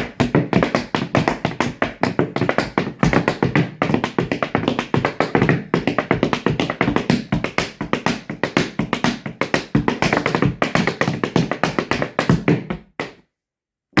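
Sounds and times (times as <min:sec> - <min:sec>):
music with rapid percussive taps: 0:00.0 - 0:13.2.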